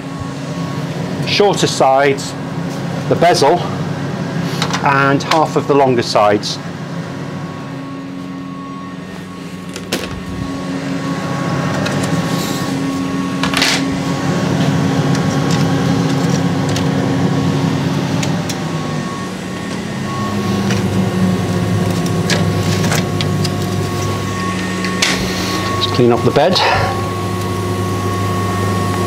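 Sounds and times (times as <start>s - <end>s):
laser cutter humming: 0.0s - 29.0s.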